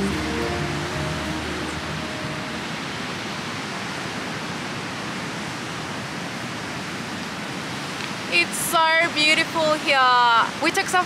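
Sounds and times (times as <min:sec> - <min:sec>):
ocean surf on a beach: 0:00.0 - 0:11.0.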